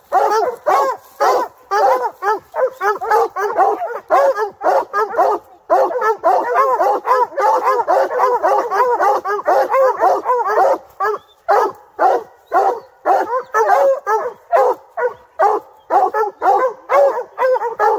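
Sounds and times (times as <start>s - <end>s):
hound barking rapidly: 0.0s - 17.9s.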